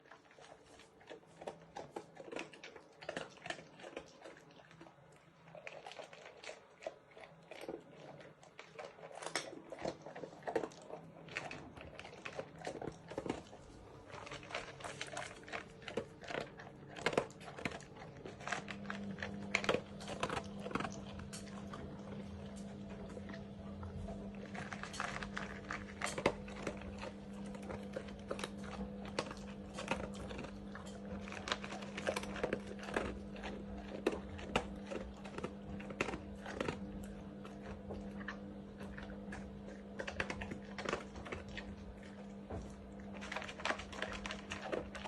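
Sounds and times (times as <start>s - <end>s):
steady low hum: 3.0s - 45.0s
crunching clicks: 5.6s - 45.0s.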